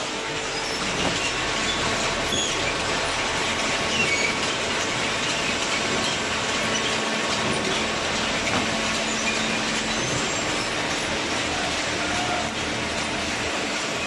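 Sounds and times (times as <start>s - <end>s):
baler mechanical noise: 0.0s - 14.0s.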